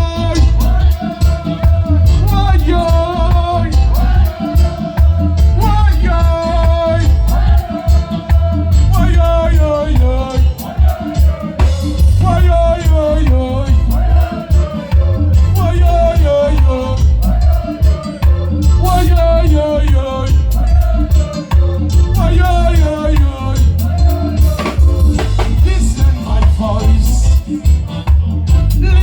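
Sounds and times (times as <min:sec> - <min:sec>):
heavy bass line: 0:00.0 - 0:29.0
reggae band playing: 0:00.0 - 0:29.0.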